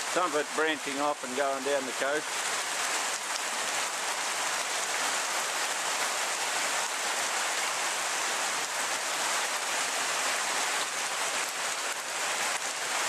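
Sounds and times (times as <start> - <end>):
heavy rain pouring: 0.0 - 13.0
running floodwater: 0.0 - 13.0.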